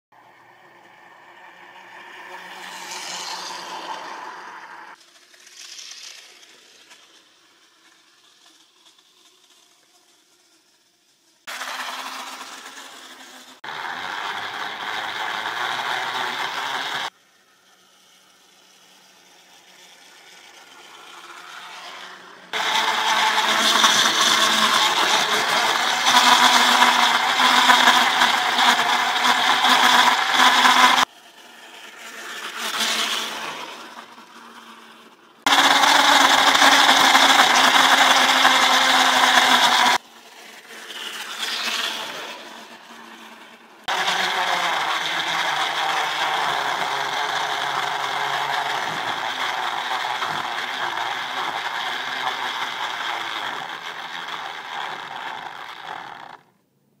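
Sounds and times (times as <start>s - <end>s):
model tram motor whine and rattle: 0.8s - 56.5s.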